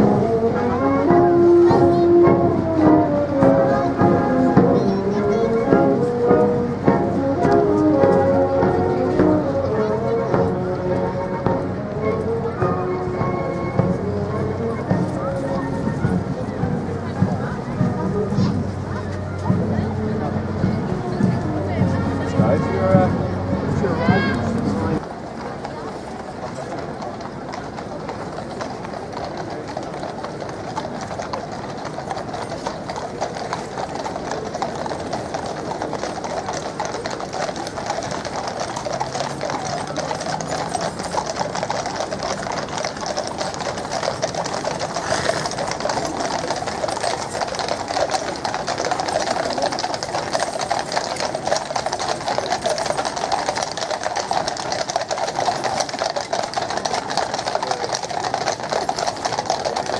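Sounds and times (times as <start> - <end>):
crowd voices: 0.0 - 59.9
horses hooves clip-clopping on road: 0.0 - 59.9.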